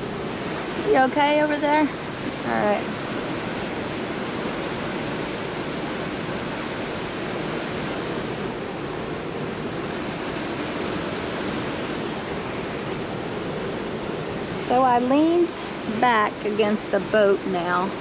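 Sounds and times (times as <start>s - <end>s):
water churning: 0.0s - 18.0s.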